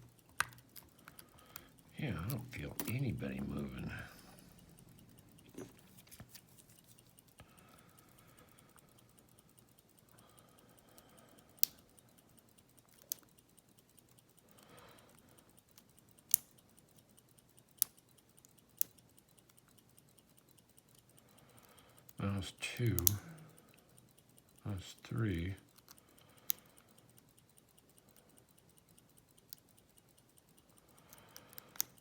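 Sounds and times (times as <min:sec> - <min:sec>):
sharp metallic clicks: 0:00.0 - 0:32.0.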